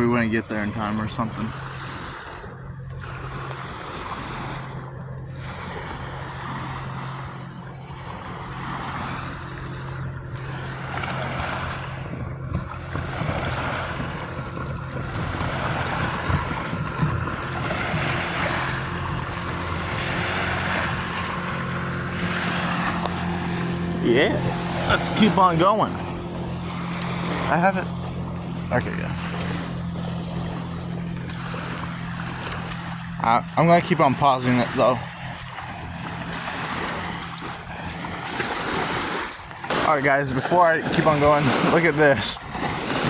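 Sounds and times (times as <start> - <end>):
low engine-like hum: 0.0 - 43.0
ocean surf washing on beach: 8.1 - 43.0.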